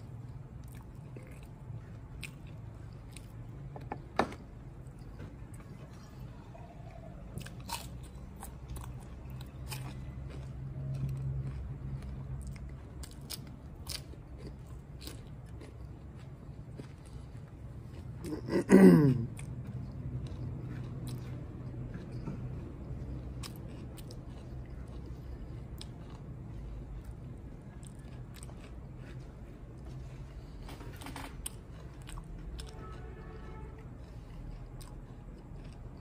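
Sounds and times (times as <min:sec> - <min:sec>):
close chewing and mouth clicks: 0:00.0 - 0:03.7, 0:04.5 - 0:36.0.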